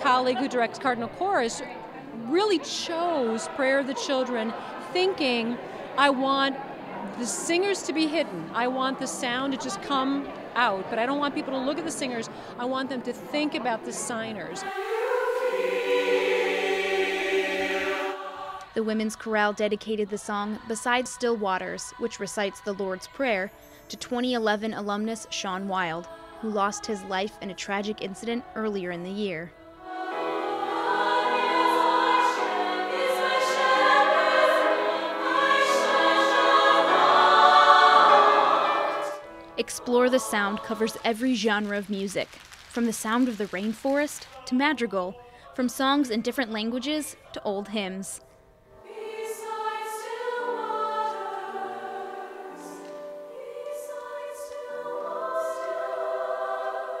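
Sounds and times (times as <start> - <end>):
women's choir singing: 0.0 - 23.6, 24.9 - 41.5, 48.8 - 57.0.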